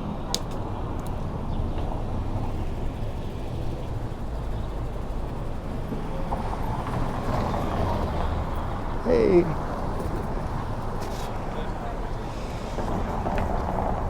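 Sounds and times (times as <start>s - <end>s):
outdoor street noise: 0.0s - 14.0s.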